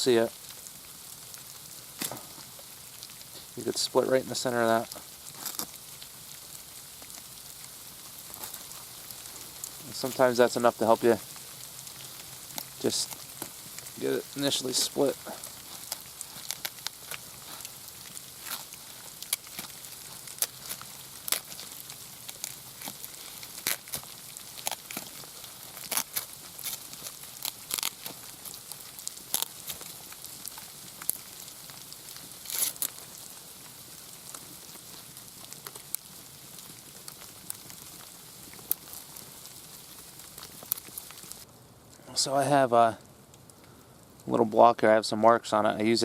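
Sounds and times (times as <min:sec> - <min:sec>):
feather quill crackling and snapping: 0:00.0 - 0:42.0
steady hiss: 0:00.0 - 0:46.0.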